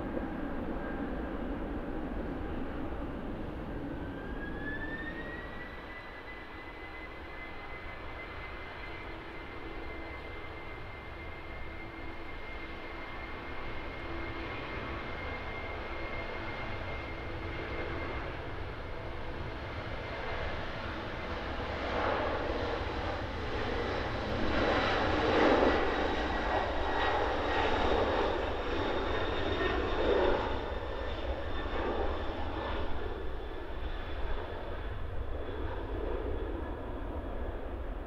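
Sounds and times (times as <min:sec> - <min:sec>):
jet engines at takeoff: 0:00.0 - 0:38.0.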